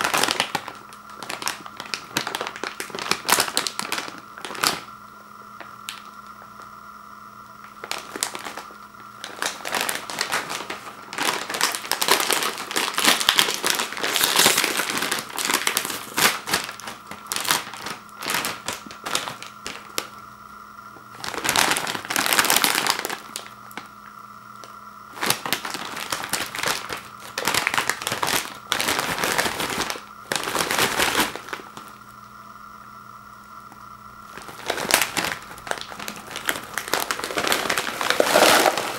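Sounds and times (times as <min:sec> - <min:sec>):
plastic chip bag crinkling: 0:00.0 - 0:04.9, 0:07.6 - 0:20.2, 0:21.0 - 0:24.0, 0:25.1 - 0:32.1, 0:34.3 - 0:38.9.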